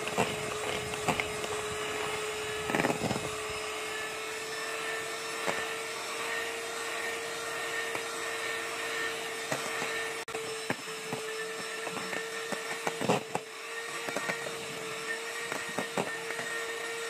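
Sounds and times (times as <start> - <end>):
electric hand mixer whining: 0.0 - 17.0.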